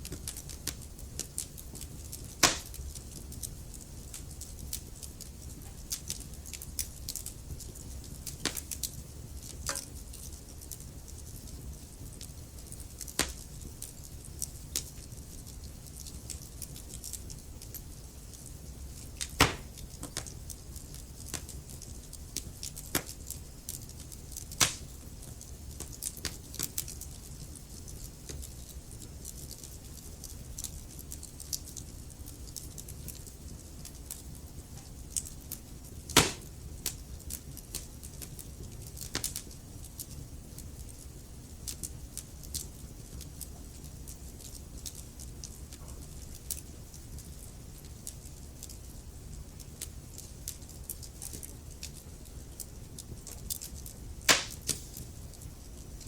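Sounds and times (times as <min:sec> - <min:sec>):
burning logs popping: 0:00.0 - 0:55.8
fire rumbling: 0:00.0 - 0:56.0
wood fire crackling: 0:00.0 - 0:56.0.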